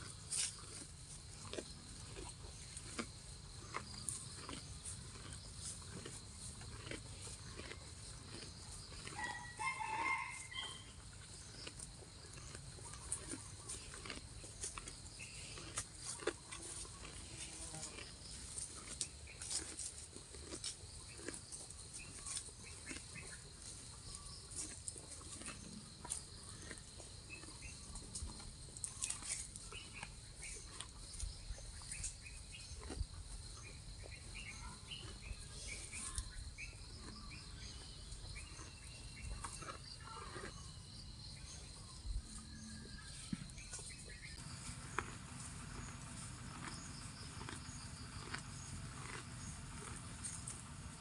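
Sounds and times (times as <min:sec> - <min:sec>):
cow tearing and chewing grass: 0:00.0 - 0:51.0
insects chirring: 0:00.0 - 0:51.0.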